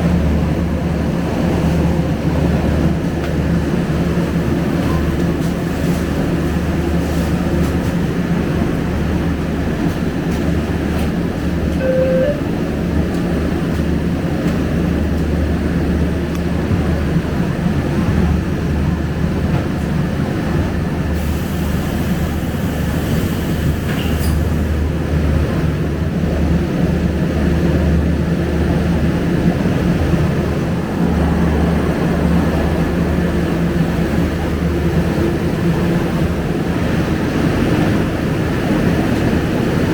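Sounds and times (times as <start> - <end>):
bus engine hum from inside: 0.0 - 39.9.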